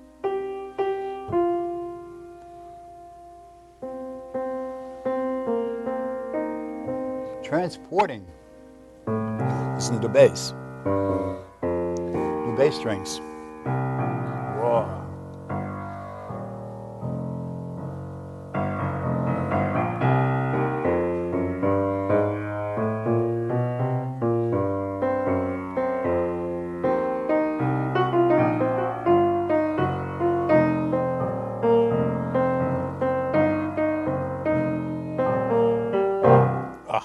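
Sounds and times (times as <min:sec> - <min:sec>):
grand piano chords: 0:00.0 - 0:37.0.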